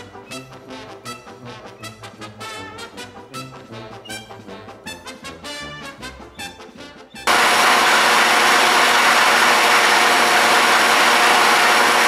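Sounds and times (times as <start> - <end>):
brass music: 0.0 - 12.0.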